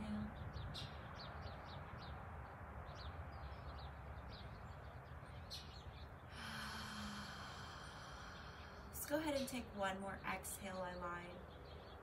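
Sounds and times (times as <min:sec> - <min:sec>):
birds chirping: 0:00.0 - 0:12.0
low outdoor background rush: 0:00.0 - 0:12.0.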